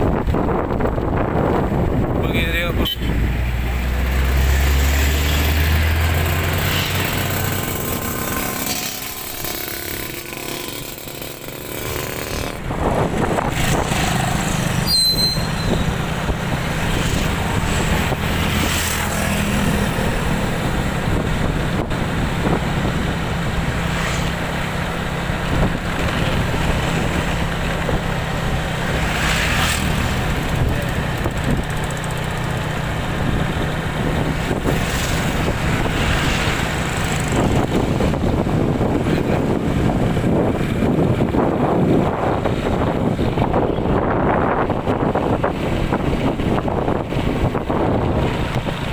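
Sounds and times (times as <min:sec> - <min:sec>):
constant rushing noise: 0:00.0 - 0:48.9
engine running steadily: 0:00.0 - 0:48.9.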